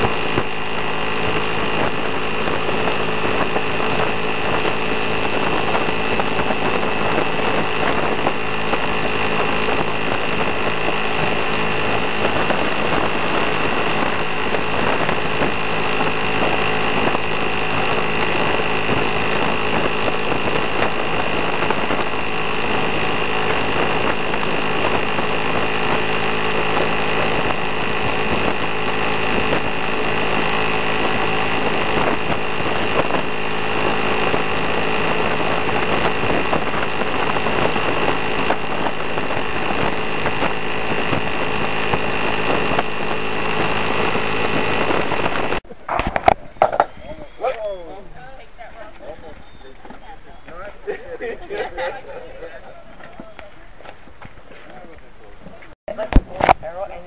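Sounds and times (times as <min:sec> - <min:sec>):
scooter engine running: 0:00.0 - 0:46.3.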